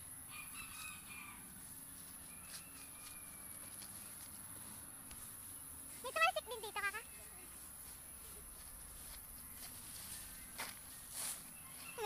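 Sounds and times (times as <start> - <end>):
rustling through ground cover: 0.4 - 12.0.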